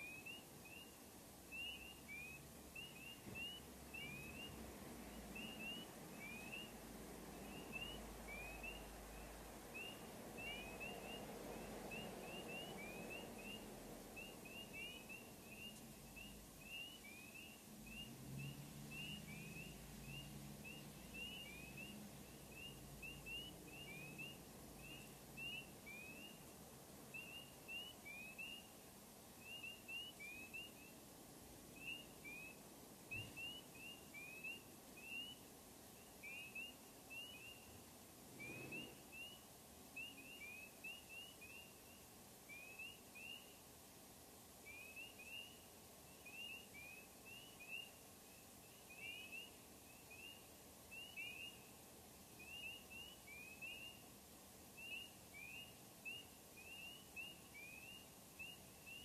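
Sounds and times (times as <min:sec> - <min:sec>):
frogs peeping: 0:00.0 - 0:59.0.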